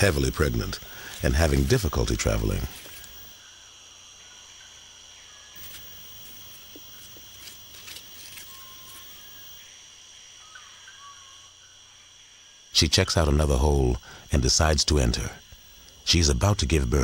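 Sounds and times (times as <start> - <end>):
insects trilling drone: 0.0 - 17.0.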